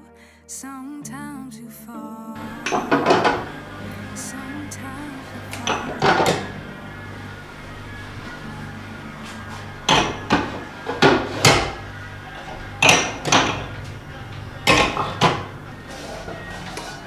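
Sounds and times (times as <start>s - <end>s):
low steady hum: 2.4s - 17.0s.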